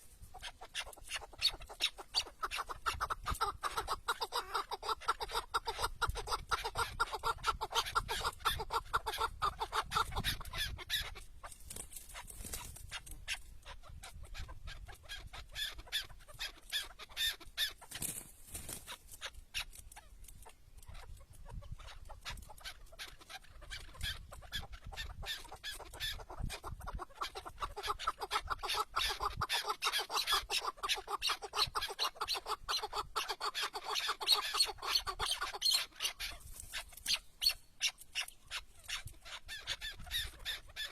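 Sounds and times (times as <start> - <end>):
partridges clucking calls: 0.0 - 40.9.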